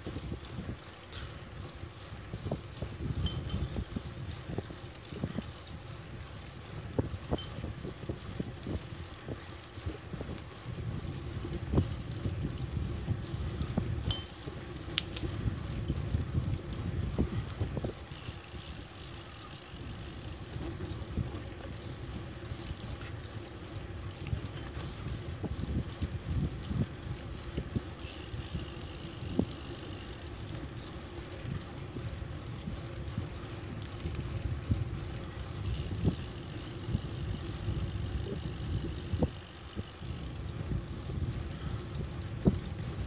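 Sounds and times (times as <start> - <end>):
bicycle tyre noise on asphalt: 0.0 - 43.0
wind rumble on microphone: 0.0 - 43.0.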